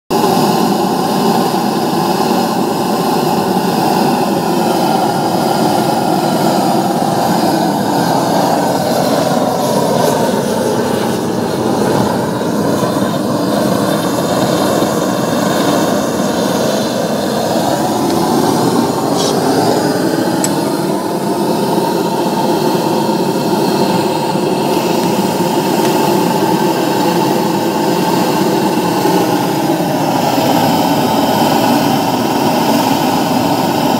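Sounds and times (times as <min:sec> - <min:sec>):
flame jet roaring: 0:00.2 - 0:33.9.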